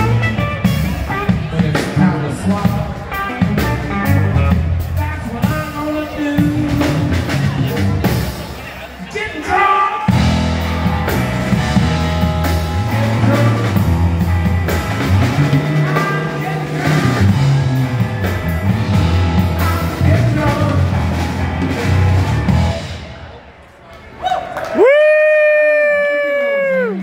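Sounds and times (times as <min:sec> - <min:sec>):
bass line: 0:00.0 - 0:08.8, 0:10.1 - 0:23.3
live rock band playing: 0:00.0 - 0:23.3
drums: 0:00.0 - 0:23.5, 0:24.8 - 0:27.0.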